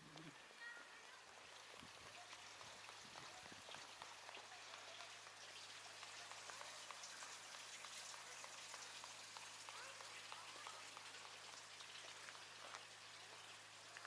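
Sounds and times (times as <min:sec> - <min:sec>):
water trickling and dripping: 0:00.1 - 0:14.0.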